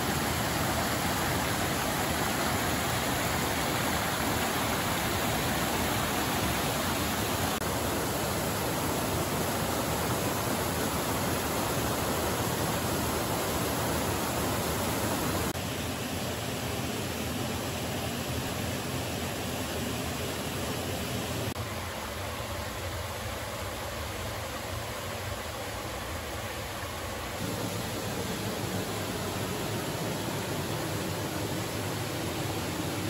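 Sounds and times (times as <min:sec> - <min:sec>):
waterfall pouring over rocks: 0:00.0 - 0:16.3, 0:17.6 - 0:33.0.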